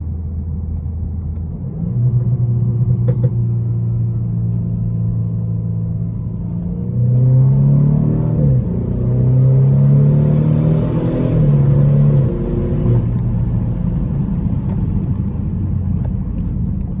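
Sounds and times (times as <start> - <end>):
car engine revving: 1.5 - 17.0.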